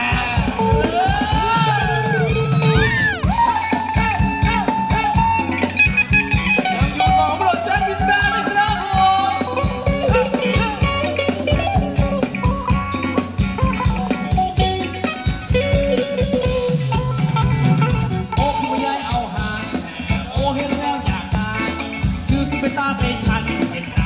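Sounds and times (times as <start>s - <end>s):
live band dance music: 0.0s - 24.0s.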